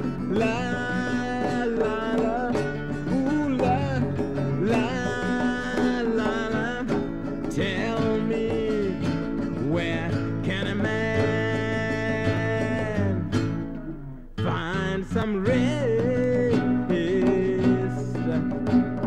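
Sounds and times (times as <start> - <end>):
guitar accompaniment: 0.0 - 19.0.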